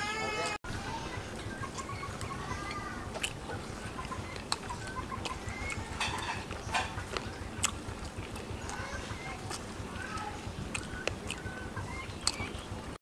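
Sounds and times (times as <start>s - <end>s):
person chewing and lip smacking: 1.7s - 12.7s.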